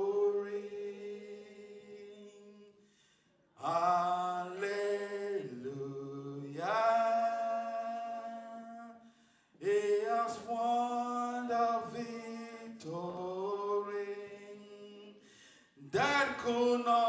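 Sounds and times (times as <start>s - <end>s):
person singing worship song: 0.0s - 17.0s.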